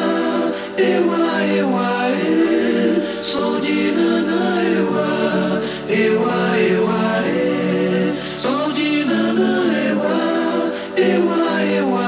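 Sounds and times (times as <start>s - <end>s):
voices singing in harmony: 0.0s - 12.0s.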